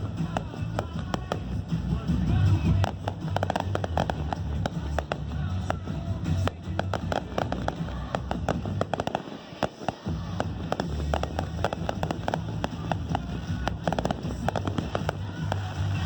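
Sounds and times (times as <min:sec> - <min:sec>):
low rumble: 0:00.0 - 0:09.0, 0:10.1 - 0:16.0
fireworks cracking and popping: 0:00.0 - 0:16.0.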